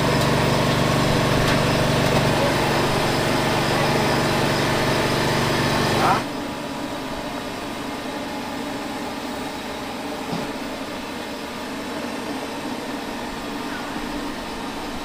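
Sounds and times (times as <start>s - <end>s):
machine humming with hiss: 0.0s - 15.0s.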